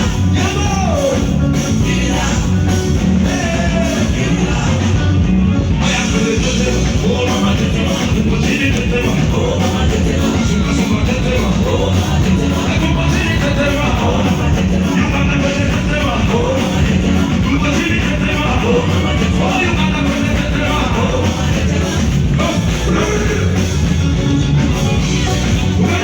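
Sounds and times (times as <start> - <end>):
live band music with singing: 0.0 - 26.0.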